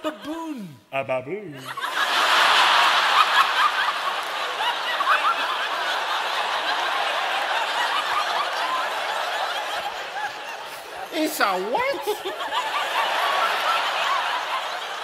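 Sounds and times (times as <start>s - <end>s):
audience laughing: 1.6s - 15.0s.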